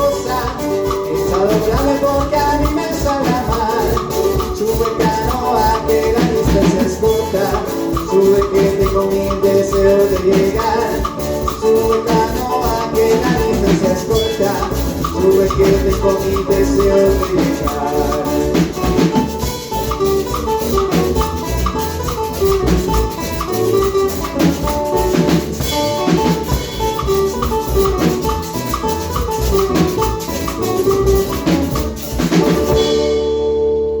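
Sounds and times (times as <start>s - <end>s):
latin dance music: 0.0s - 34.0s.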